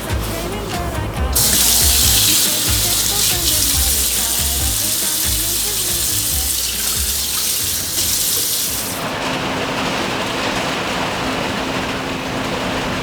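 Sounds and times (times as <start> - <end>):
running water rushing: 0.6 - 12.6.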